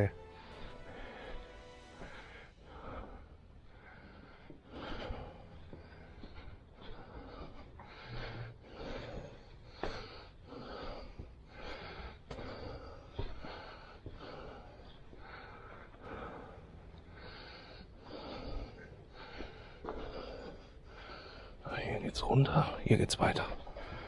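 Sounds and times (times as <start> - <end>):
heavy breathing: 0.0 - 22.8, 23.4 - 24.0.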